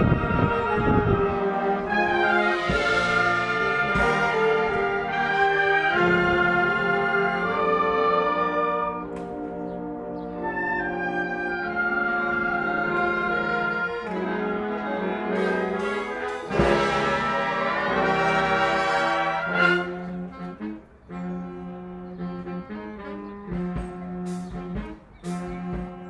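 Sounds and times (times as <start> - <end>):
wind orchestra playing soul music: 0.0 - 26.0.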